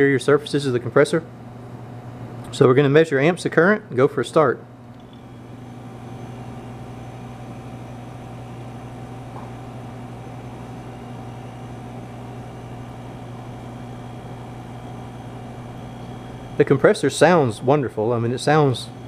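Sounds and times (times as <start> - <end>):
fridge compressor humming: 0.0 - 19.0.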